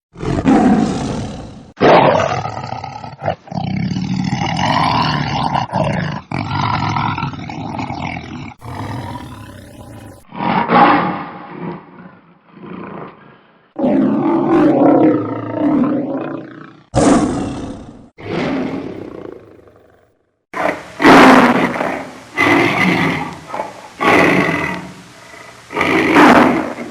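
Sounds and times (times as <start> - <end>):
lions roaring: 0.2 - 20.0, 20.6 - 26.9.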